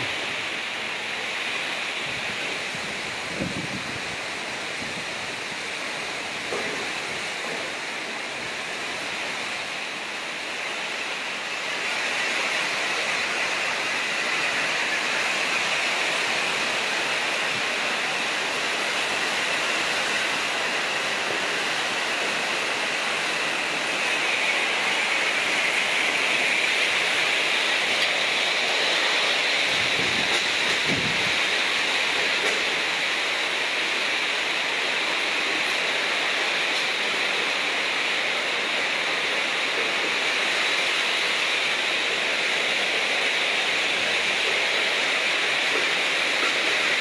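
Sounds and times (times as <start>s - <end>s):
heavy rain: 0.0s - 47.0s
strong storm wind: 0.0s - 47.0s.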